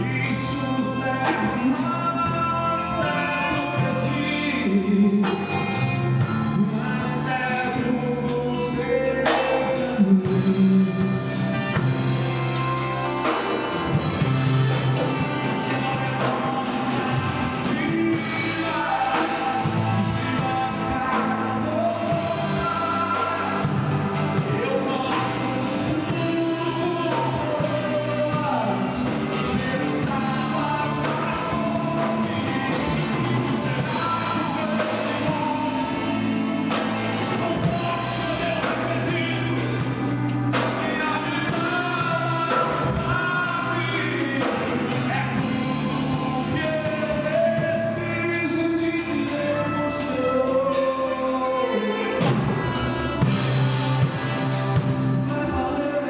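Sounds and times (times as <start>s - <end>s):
person singing: 0.0s - 56.0s
steady drums: 0.0s - 56.0s
worship band playing: 0.0s - 56.0s.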